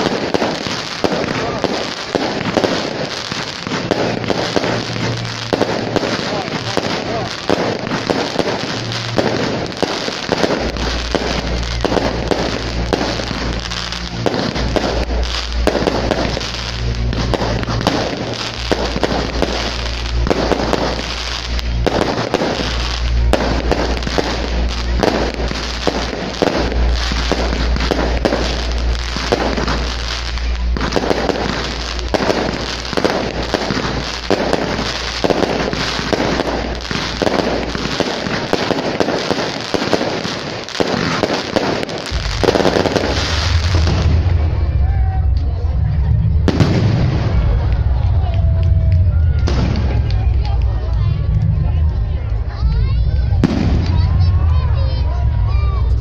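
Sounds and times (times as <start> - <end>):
fireworks bursting and crackling: 0.0 - 56.0
music with deep bass: 0.0 - 56.0.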